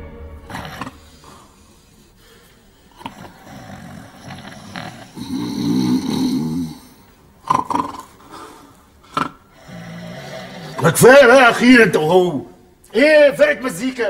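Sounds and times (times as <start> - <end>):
men snoring: 0.4 - 11.8.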